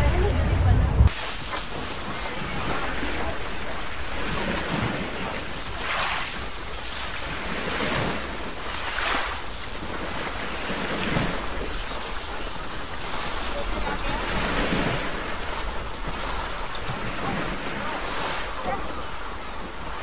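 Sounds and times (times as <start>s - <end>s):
water splashing along boat hull: 0.0s - 20.0s
wind buffeting microphone: 0.0s - 20.0s.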